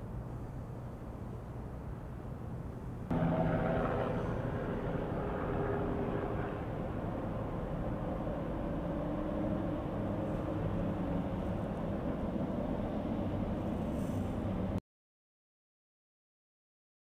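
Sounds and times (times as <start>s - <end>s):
low rumble of city traffic: 0.0s - 14.8s.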